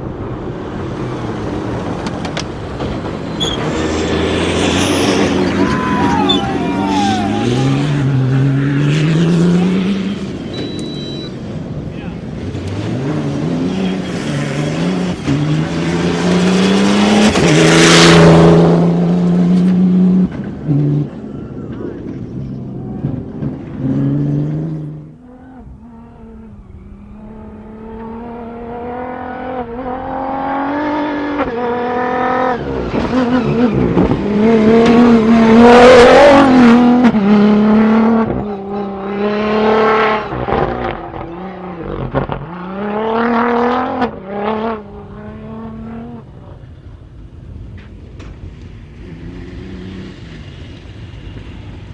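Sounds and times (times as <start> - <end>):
race cars passing at full throttle: 0.0 - 51.9.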